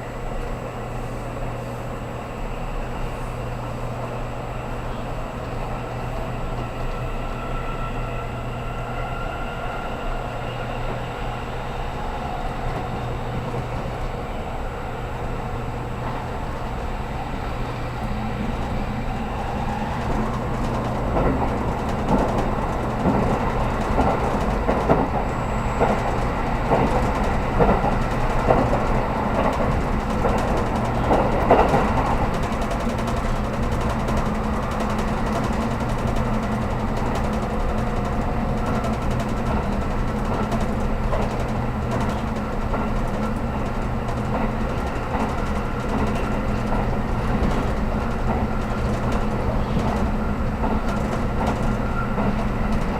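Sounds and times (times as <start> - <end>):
train running hum: 0.0 - 52.9.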